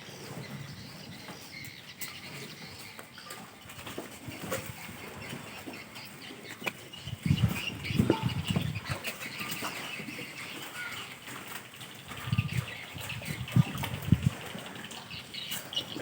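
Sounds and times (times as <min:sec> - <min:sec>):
animal sounds: 0:00.0 - 0:16.0.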